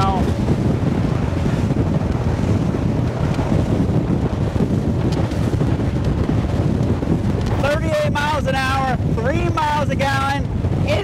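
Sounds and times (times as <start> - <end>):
outboard engine running: 0.0 - 11.0
water rushing past hull: 0.0 - 11.0
wind buffeting microphone: 0.0 - 11.0.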